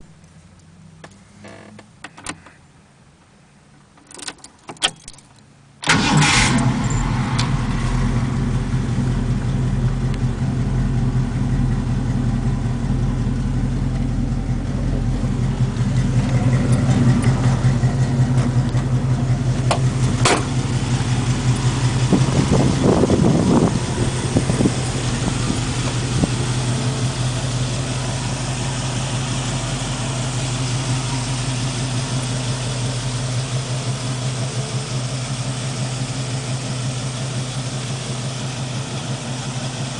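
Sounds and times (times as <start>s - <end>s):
car engine starting and idling: 3.8s - 39.9s.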